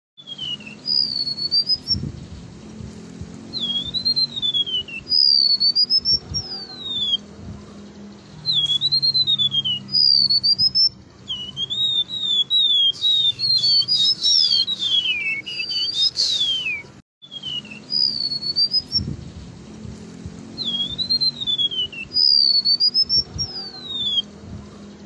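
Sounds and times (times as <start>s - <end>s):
bird singing high whistled notes: 0.2s - 19.6s, 20.4s - 24.8s.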